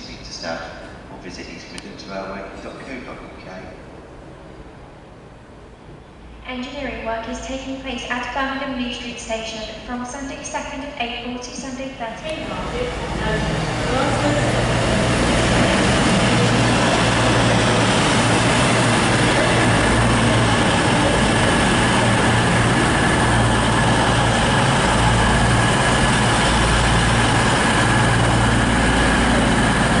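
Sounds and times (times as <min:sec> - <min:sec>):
train diesel engines humming: 0:00.0 - 0:30.0.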